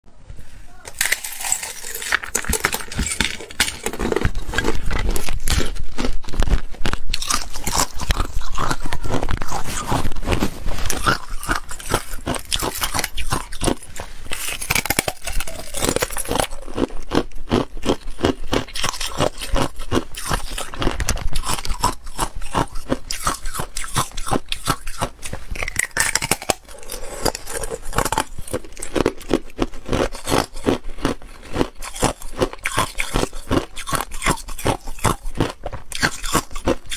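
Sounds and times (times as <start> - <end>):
ice crunching while chewed: 0.9 - 36.9.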